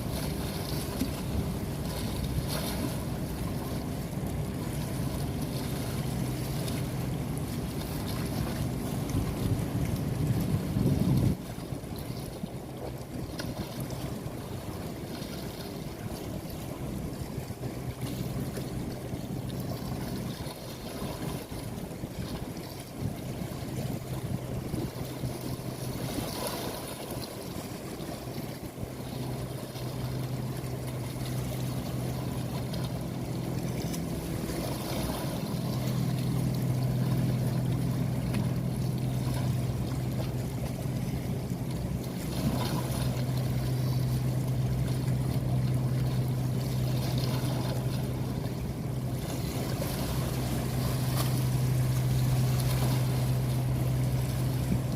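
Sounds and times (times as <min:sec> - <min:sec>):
low motor hum: 0:00.0 - 0:54.9
rushing water: 0:00.0 - 0:54.9
wind: 0:00.0 - 0:54.9.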